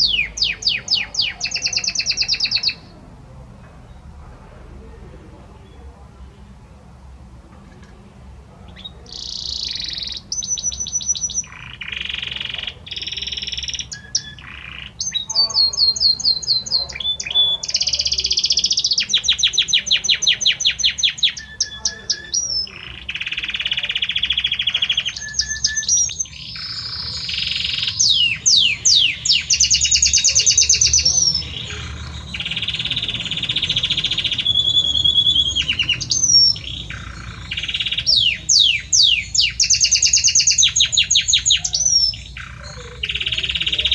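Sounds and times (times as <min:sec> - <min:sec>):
canary singing trills: 0:00.0 - 0:05.0, 0:07.2 - 0:43.9.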